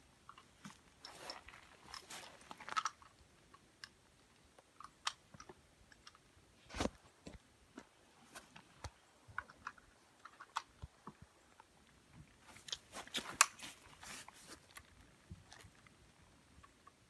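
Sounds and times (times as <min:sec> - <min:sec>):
handling clicks and rustles: 0:00.2 - 0:17.0.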